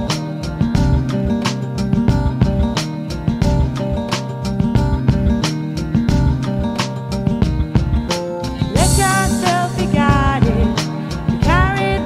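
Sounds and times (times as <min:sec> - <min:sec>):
instrumental music with deep bass: 0:00.0 - 0:12.0.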